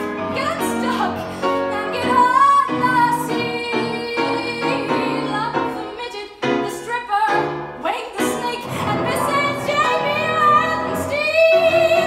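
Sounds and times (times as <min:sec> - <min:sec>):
woman singing into a microphone: 0:00.0 - 0:12.0.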